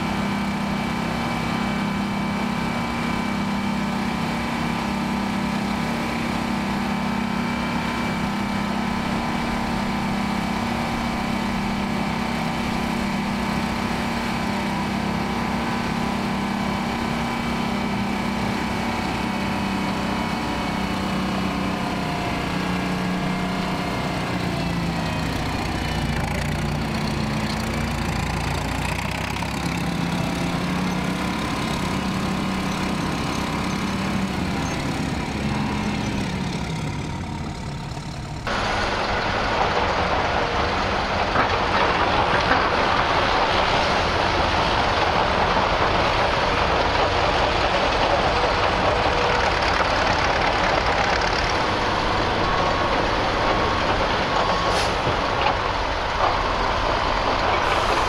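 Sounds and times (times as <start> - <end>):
diesel truck engine running: 0.0 - 58.0
dirt sliding rumble: 0.0 - 58.0.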